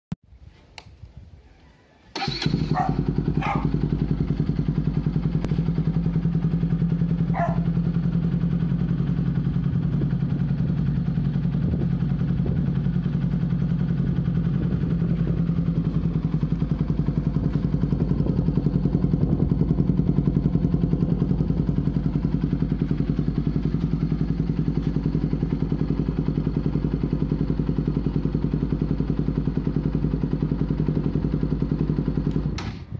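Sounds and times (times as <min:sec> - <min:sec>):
motorcycle engine idling: 0:02.1 - 0:32.9.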